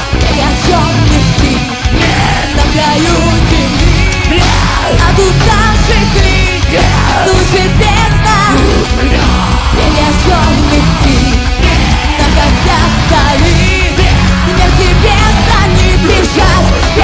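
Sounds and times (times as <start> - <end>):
person singing: 0.0 - 17.0
rock band playing live: 0.0 - 17.0.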